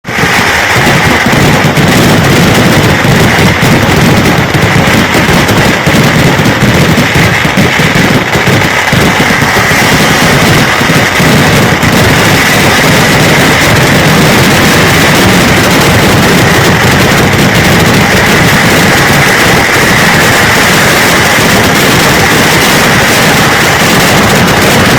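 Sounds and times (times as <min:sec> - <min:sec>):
firecracker explosions crackling: 0:00.0 - 0:24.9.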